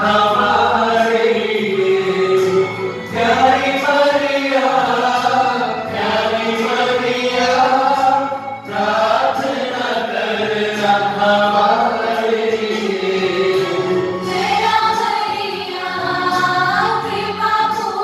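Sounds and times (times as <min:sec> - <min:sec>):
congregation singing in unison: 0:00.0 - 0:18.0.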